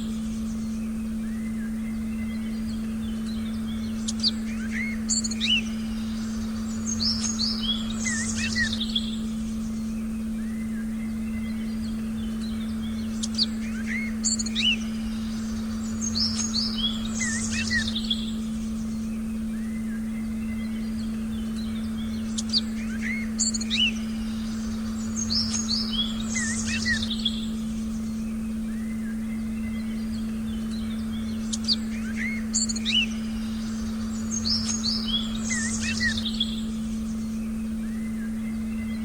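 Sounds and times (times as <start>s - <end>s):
birds chirping and whistling: 0.0s - 39.0s
steady low tone: 0.0s - 39.0s.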